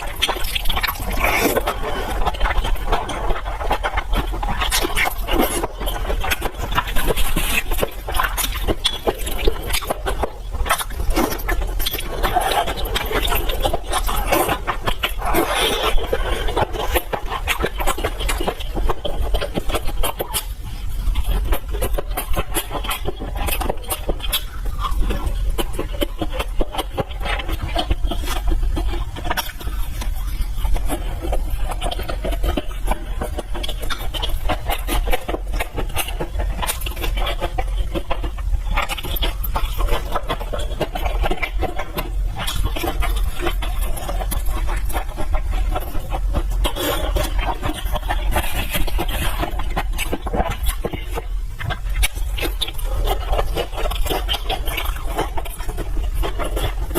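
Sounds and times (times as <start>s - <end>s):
person chewing and slurping: 0.0s - 56.9s
steady low hum: 0.0s - 56.9s.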